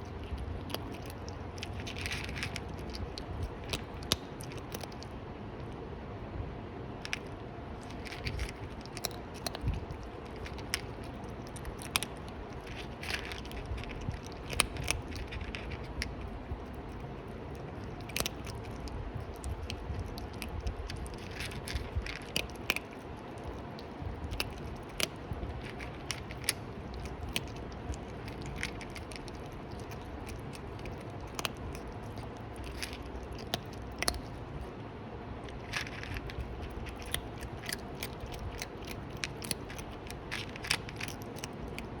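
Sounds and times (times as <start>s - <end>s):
cat crunching food: 0.0s - 5.8s, 6.9s - 34.8s, 35.4s - 42.0s
low steady hum: 0.0s - 42.0s.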